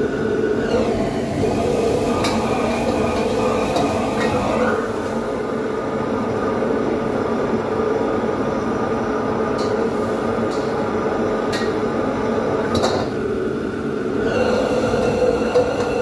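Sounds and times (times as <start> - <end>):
gas burners roaring: 0.0 - 16.0.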